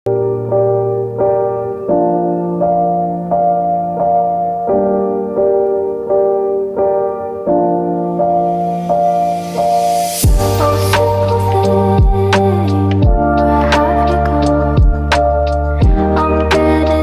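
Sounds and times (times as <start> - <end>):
slow piano chords: 0.1 - 17.0.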